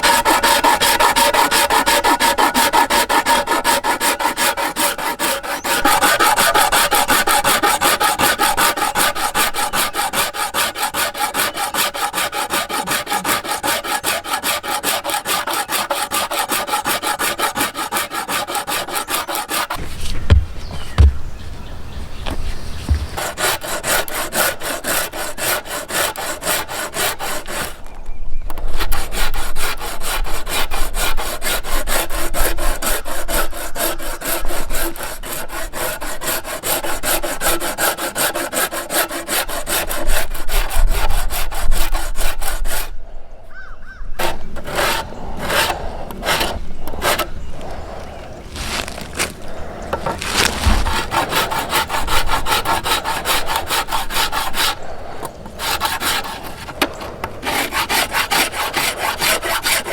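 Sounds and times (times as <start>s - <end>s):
hand tool cutting wood: 0.0s - 27.9s, 28.7s - 42.9s, 44.2s - 59.9s.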